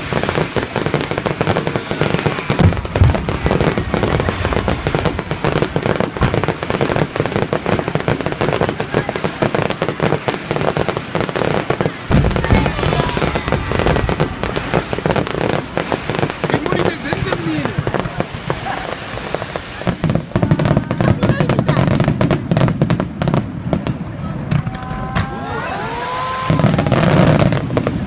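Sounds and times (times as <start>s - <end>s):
fireworks bursting and crackling: 0.0s - 28.0s
heavy firework booms: 0.0s - 28.0s.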